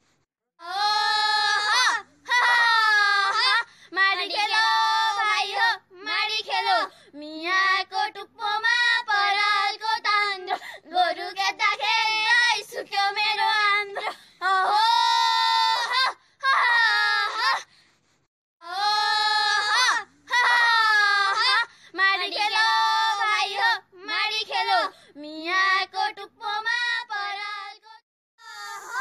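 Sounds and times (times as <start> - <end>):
women singing unaccompanied: 0.6 - 16.1, 18.6 - 29.0.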